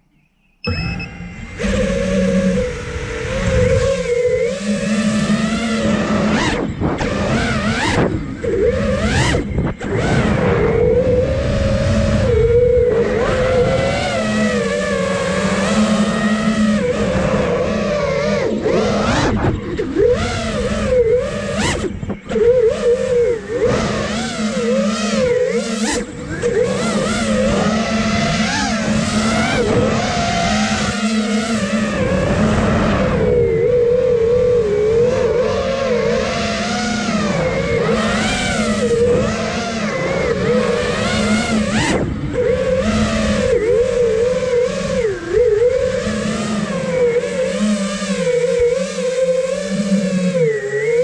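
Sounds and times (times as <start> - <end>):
drone motors whining: 0.0 - 51.0
rush of wind: 0.7 - 49.4.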